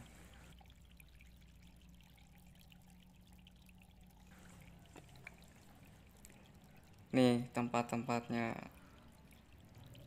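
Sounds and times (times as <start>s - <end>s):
low steady hum: 0.0s - 10.0s
water trickling: 0.0s - 10.0s.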